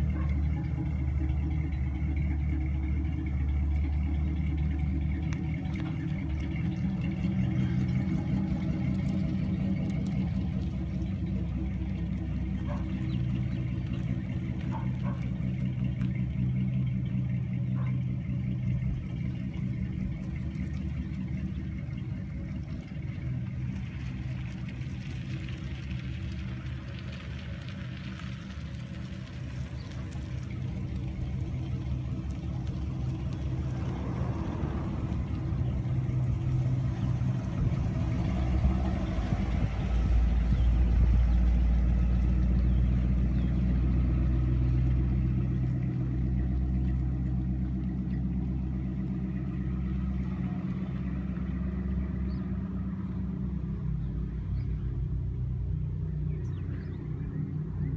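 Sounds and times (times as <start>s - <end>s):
car driving past: 0.0s - 57.9s.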